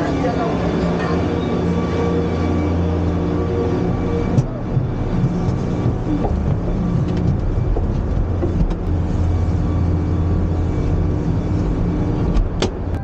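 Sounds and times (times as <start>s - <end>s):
bus engine hum: 0.0s - 13.0s
road noise: 0.0s - 13.0s.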